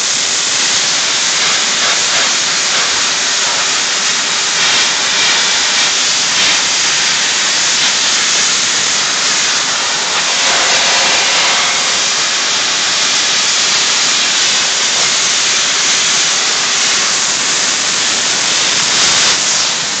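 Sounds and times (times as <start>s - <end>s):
blasting nozzle hissing: 0.0s - 20.0s.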